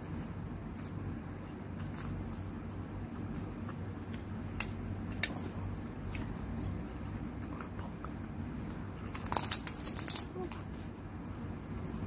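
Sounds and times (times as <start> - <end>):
person chewing noodles: 0.0 - 12.0
steady low hum: 0.0 - 12.0.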